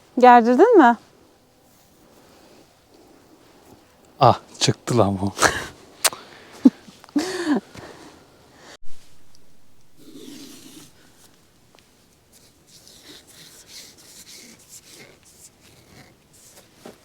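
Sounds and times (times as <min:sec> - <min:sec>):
camping gear rustling and scraping: 0:00.0 - 0:04.7, 0:05.4 - 0:17.0.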